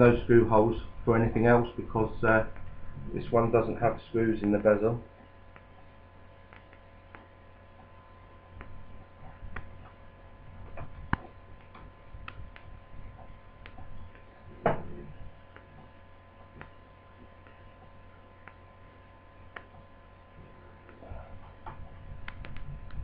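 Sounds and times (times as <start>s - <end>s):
steady faint hum: 0.0s - 23.0s.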